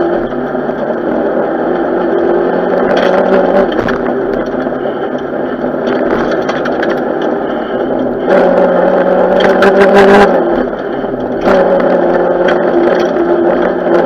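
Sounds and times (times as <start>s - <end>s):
road noise: 0.0s - 14.0s
turbocharged car engine at speed: 0.0s - 14.0s.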